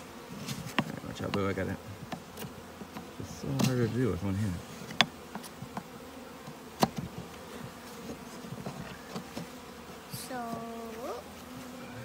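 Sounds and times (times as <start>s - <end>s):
bee flying past: 0.0s - 12.0s
bees buzzing: 0.0s - 12.0s.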